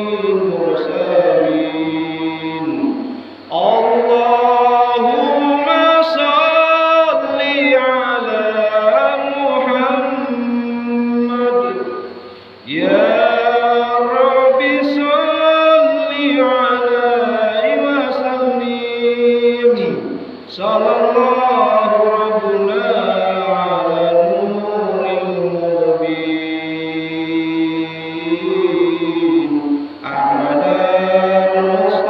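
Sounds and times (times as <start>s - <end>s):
man singing unaccompanied: 0.0s - 32.0s
steady low hum: 0.0s - 32.0s.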